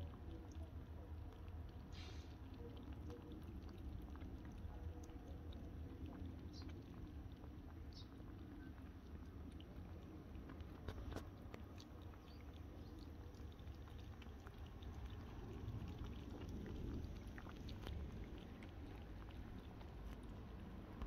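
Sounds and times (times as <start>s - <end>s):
kittens lapping milk: 0.0s - 21.0s
low steady rumble: 0.0s - 21.0s.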